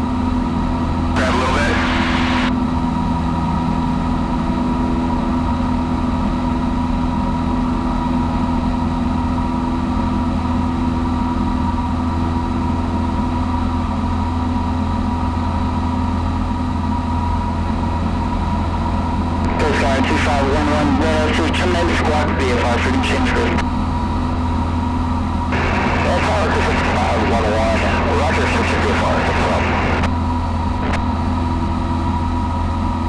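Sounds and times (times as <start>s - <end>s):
propeller plane engine running: 0.0s - 33.0s.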